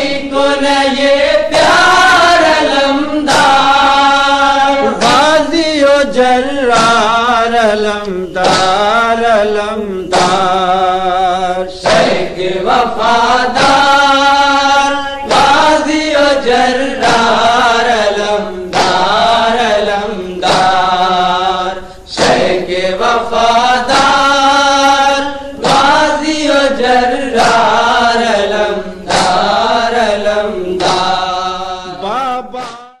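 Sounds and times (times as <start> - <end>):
person chanting a lament: 0.0 - 33.0.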